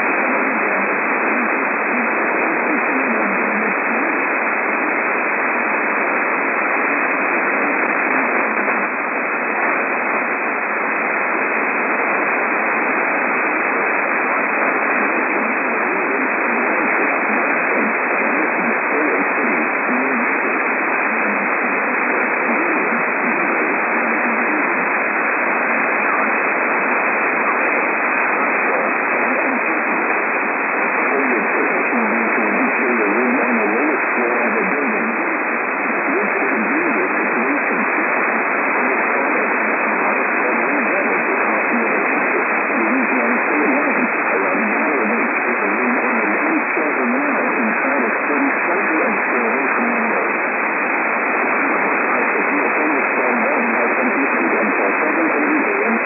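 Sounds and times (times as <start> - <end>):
faint voice on radio: 0.0 - 56.0
radio static hiss: 0.0 - 56.0.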